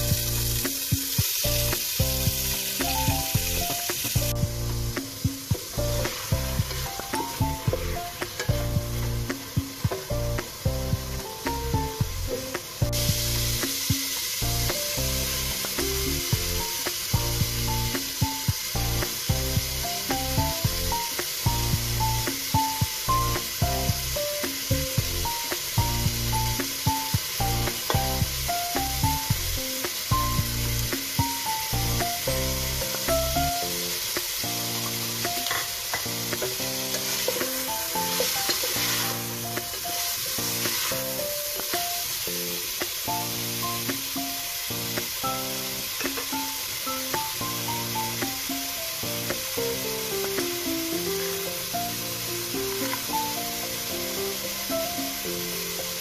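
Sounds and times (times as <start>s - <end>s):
background music with beat: 0.0s - 56.0s
meat sizzling in oil: 0.0s - 56.0s.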